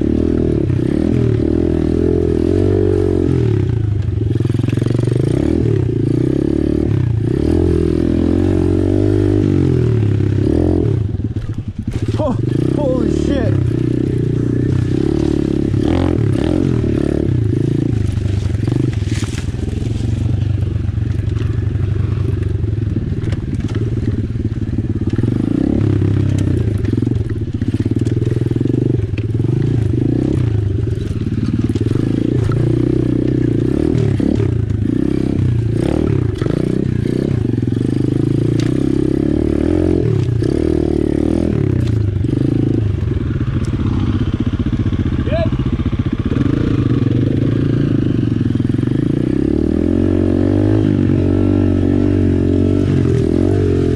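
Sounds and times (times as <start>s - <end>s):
motorbike engine revving: 0.0s - 53.9s.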